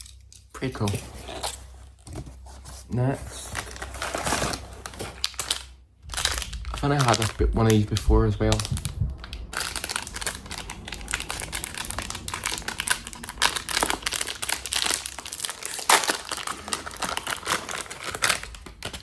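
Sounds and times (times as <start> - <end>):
packaging crinkling: 0.8 - 19.0.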